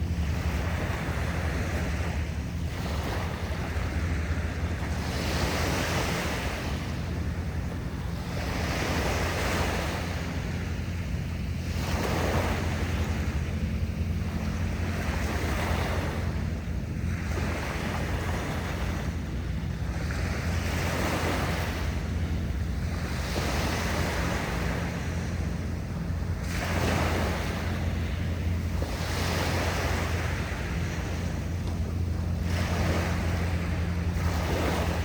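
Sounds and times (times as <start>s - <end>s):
sea waves washing in: 0.0s - 35.0s
wind rumble on microphone: 0.0s - 35.0s.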